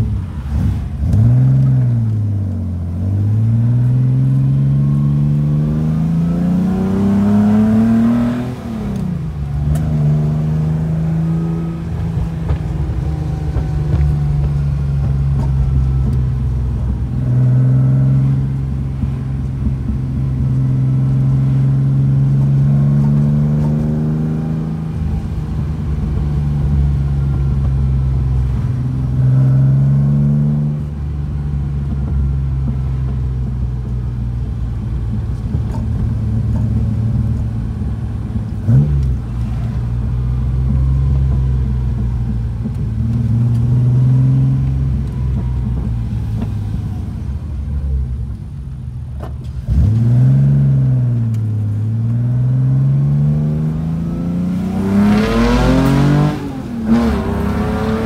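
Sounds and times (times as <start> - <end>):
car engine revving while driving: 0.0 - 48.4, 49.2 - 58.0.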